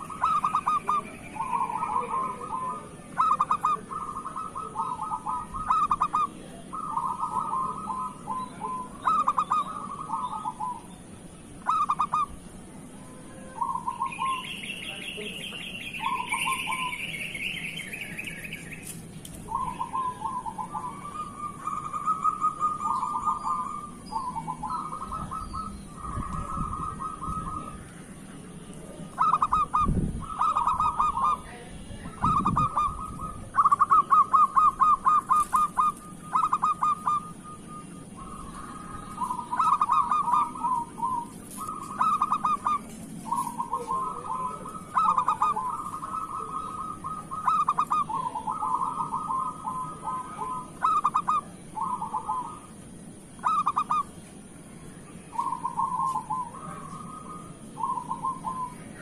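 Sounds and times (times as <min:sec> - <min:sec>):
dove cooing: 0:00.0 - 0:10.9, 0:11.6 - 0:18.6, 0:19.4 - 0:54.2, 0:54.9 - 0:59.0.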